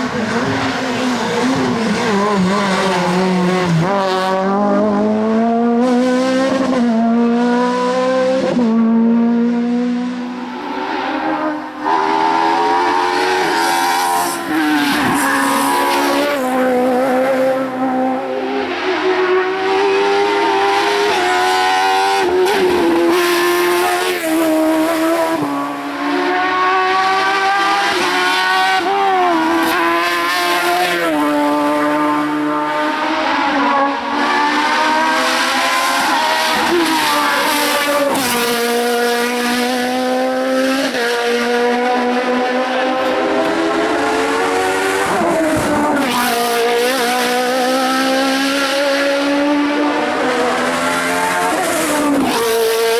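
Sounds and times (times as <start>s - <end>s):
race car engine revving: 0.0s - 52.9s.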